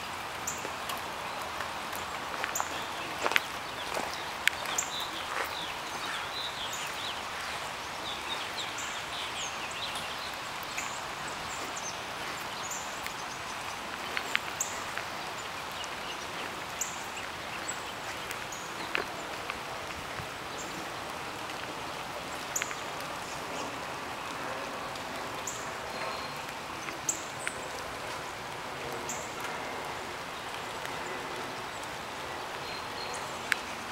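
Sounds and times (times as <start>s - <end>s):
light rain falling: 0.0s - 33.9s
raindrops ticking: 0.0s - 33.9s.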